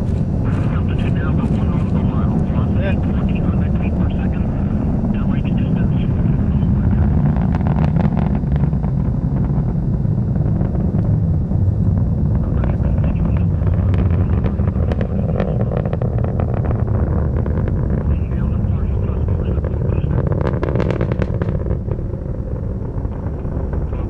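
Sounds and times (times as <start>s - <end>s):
distant rocket engine roar: 0.0s - 24.0s
rocket crackles: 0.0s - 24.0s.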